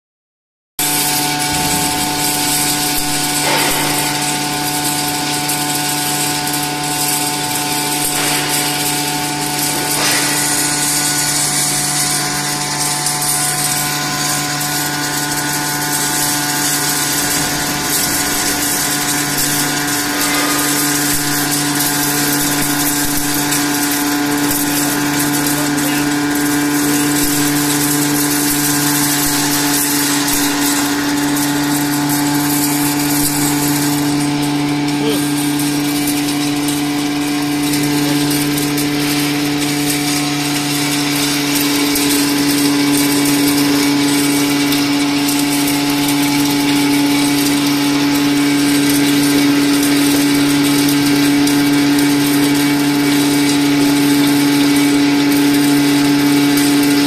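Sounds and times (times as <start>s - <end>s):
grinding mill humming and whining: 0.8s - 57.0s.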